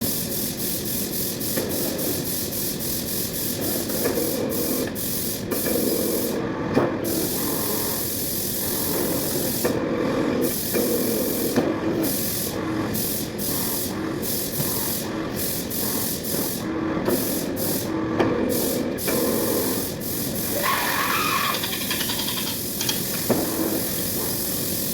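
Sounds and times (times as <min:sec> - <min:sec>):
workshop machine hissing: 0:00.0 - 0:24.9.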